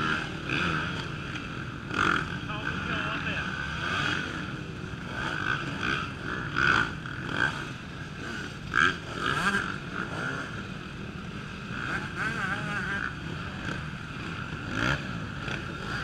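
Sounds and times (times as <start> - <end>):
motorcycles revving: 0.0 - 16.0.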